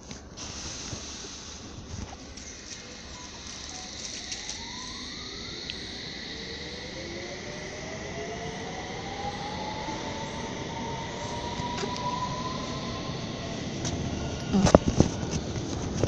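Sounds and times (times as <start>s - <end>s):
electric train motors whining: 0.0s - 16.0s.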